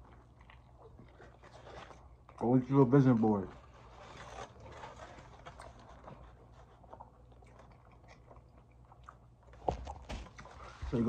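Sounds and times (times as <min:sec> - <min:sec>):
close-up chewing: 0:00.0 - 0:11.0.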